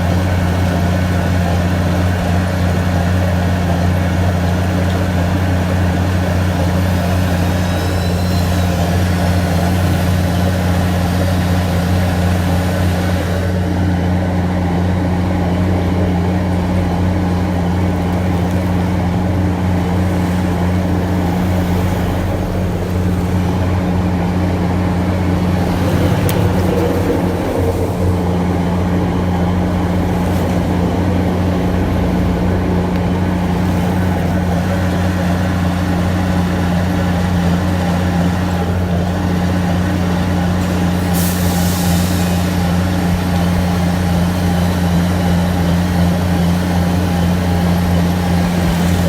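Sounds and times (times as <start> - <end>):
heavy engine droning: 0.0 - 49.0.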